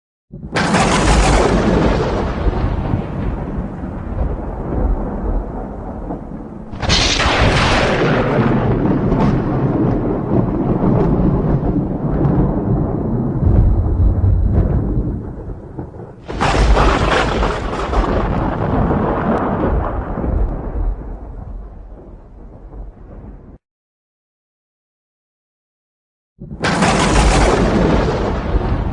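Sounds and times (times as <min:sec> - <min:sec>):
low thunder rumble: 0:00.3 - 0:23.6, 0:26.4 - 0:28.9
sharp thunderclaps: 0:00.3 - 0:23.6, 0:26.4 - 0:28.9.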